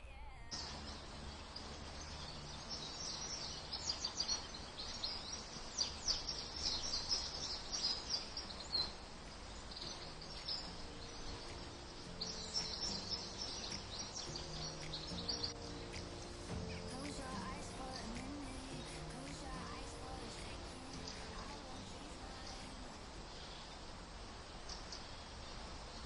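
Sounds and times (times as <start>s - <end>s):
birds chirping and singing: 0.6s - 23.9s.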